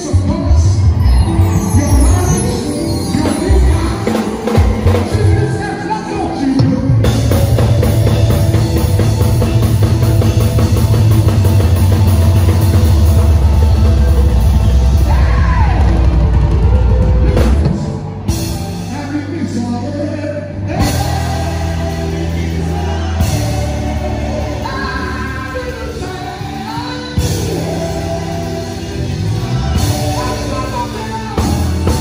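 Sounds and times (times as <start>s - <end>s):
deep steady bass: 0.0s - 32.0s
live band music: 0.0s - 32.0s.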